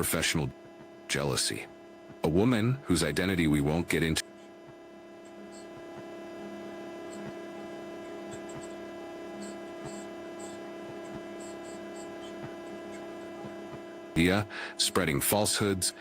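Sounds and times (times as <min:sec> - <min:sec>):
steady tonal hum: 0:00.0 - 0:16.0.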